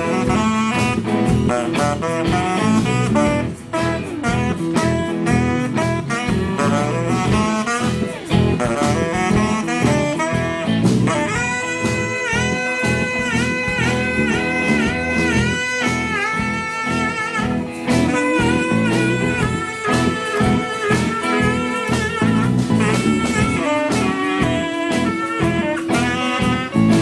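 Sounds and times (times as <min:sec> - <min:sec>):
lead instrument bending long notes: 0:00.0 - 0:27.0
live rock band playing: 0:00.0 - 0:27.0.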